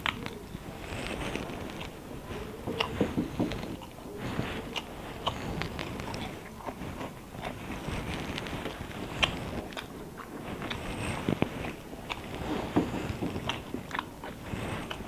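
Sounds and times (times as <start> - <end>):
mouth clicks: 0.0 - 15.0
person chewing food: 0.0 - 15.0.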